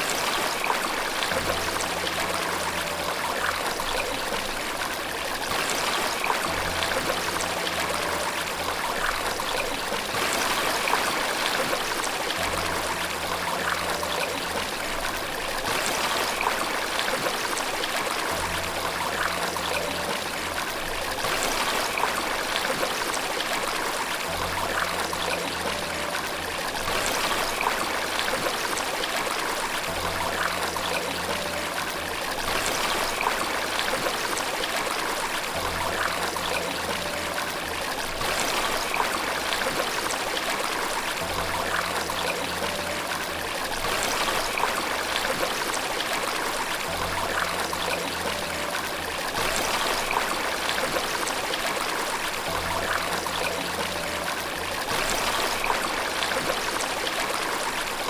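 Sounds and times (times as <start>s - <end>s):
soft low relaxation music: 0.0s - 58.0s
water rushing: 0.0s - 58.0s.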